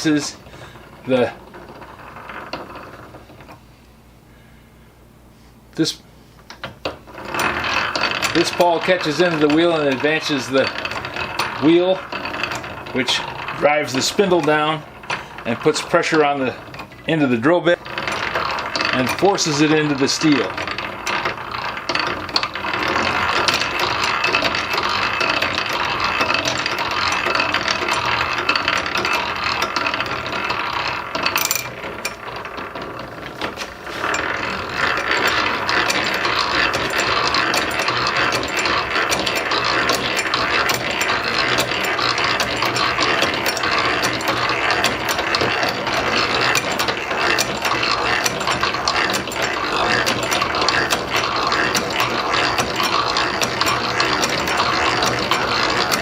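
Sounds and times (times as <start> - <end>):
feed pawl clicking rapidly: 0.0 - 3.6, 6.5 - 56.0
hand-cranked drill press gears: 0.0 - 3.6, 6.5 - 56.0.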